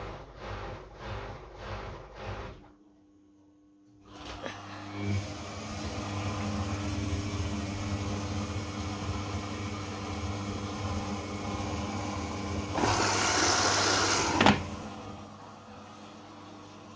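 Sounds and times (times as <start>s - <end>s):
washing machine motor hum: 0.0s - 3.1s, 4.0s - 16.9s.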